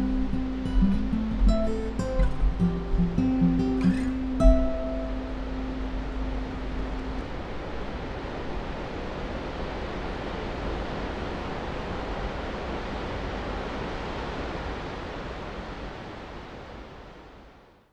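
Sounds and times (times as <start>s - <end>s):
steady rushing noise: 0.0s - 17.7s.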